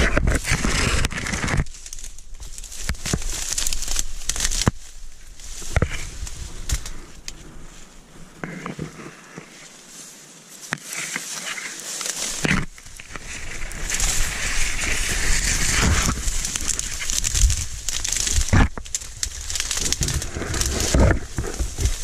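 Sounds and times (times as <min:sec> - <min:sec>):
dry reeds rustling and crackling: 0:00.0 - 0:22.0.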